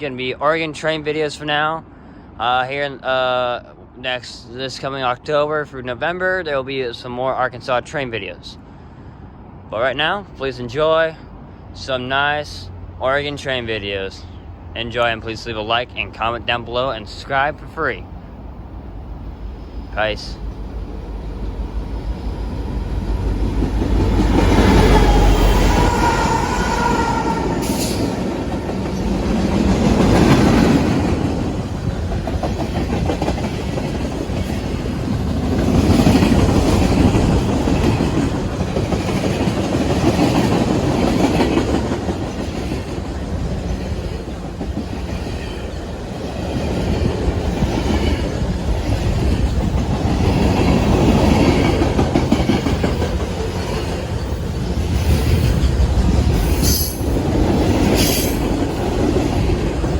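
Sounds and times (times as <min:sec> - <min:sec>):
freight train rolling past: 0:00.2 - 0:59.9.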